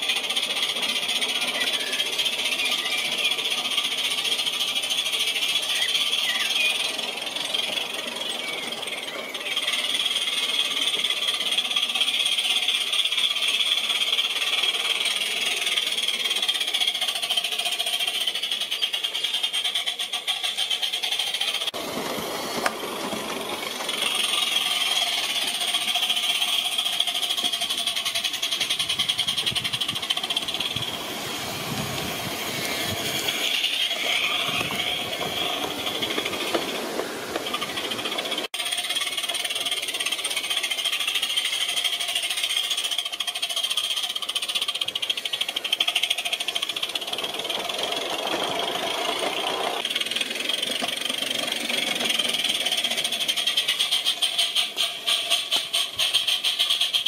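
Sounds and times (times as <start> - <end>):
steam exhaust beats: 0.0 - 57.0
steam hiss: 0.0 - 57.0
wheels rumbling on rails: 0.0 - 57.0.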